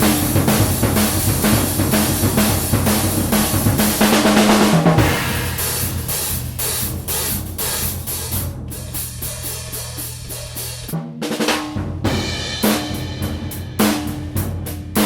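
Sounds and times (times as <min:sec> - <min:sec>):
bass drum: 0:00.0 - 0:15.0
hi-hat cymbals: 0:00.0 - 0:15.0
snare drum: 0:00.0 - 0:15.0.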